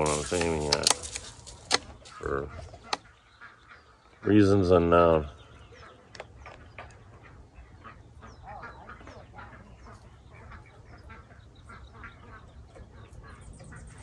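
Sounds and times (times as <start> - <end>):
birds quacking: 0.0 - 14.0.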